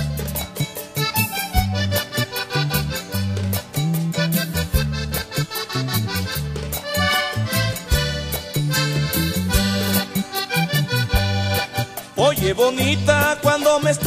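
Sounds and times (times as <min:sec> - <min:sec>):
accordion melody: 0:00.0 - 0:14.0
bass line: 0:00.0 - 0:14.0
percussion beat: 0:00.0 - 0:14.0.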